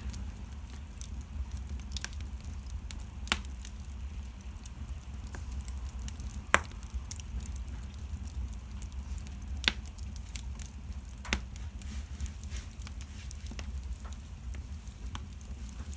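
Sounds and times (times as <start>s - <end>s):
loud fire pops: 0.0s - 15.9s
wood fire crackling: 0.0s - 15.9s.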